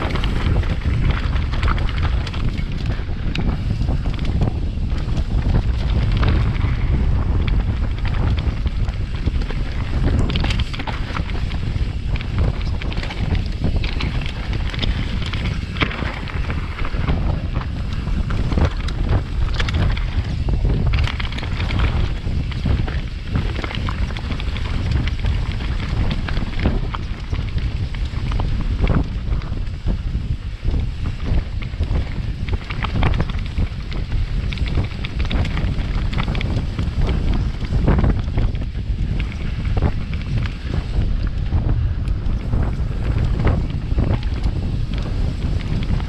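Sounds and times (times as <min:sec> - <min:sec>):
bike clattering over bumps: 0:00.0 - 0:46.0
tyres on dirt trail: 0:00.0 - 0:46.0
wind buffeting microphone: 0:00.0 - 0:46.0.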